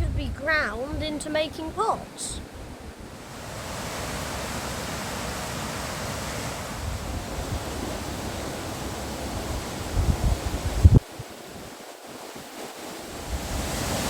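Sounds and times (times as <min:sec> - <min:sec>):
wind buffeting microphone: 0:00.0 - 0:14.0
flowing water: 0:00.3 - 0:14.0.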